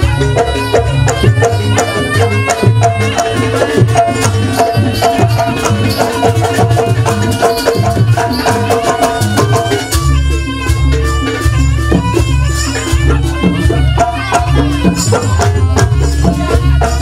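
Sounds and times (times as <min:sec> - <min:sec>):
hand drums fast rhythm: 0:00.0 - 0:17.0.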